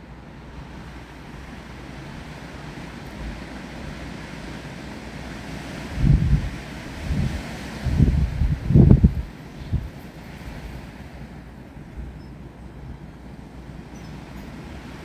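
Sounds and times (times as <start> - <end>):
wind and rain hiss: 0.0 - 15.0
wind buffeting microphone: 0.0 - 15.0.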